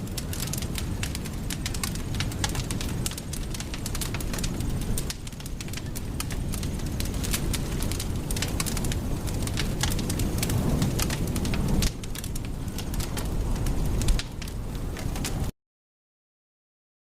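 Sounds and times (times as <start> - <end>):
campfire crackling and popping: 0.0 - 15.5
steady low rumble: 0.0 - 15.5.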